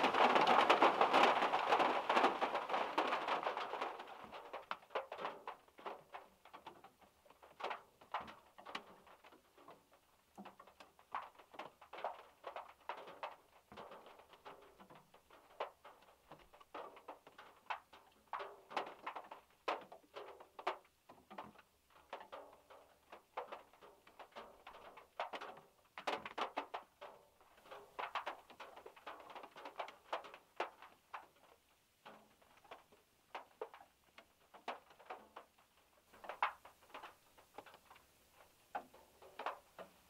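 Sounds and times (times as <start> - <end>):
raindrops tapping on metal car roof: 0.0 - 40.0.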